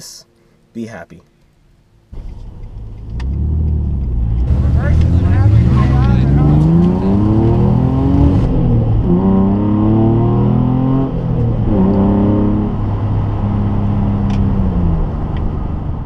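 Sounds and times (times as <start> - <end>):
car engine accelerating: 2.1 - 16.0.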